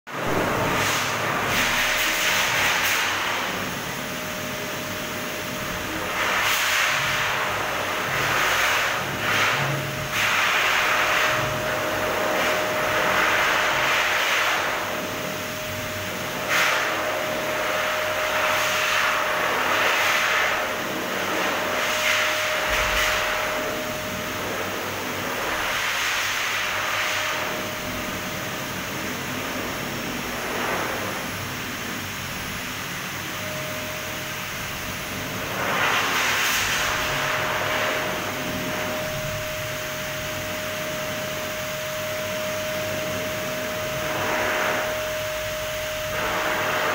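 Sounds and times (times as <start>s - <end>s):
dryer whine: 0.1s - 46.9s
rushing hiss of air: 0.2s - 46.9s.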